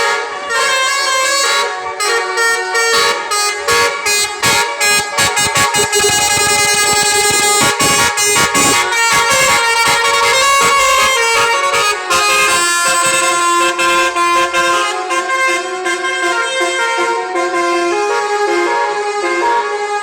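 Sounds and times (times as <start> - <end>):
multi-tone bus air horn tune: 0.0 - 20.0.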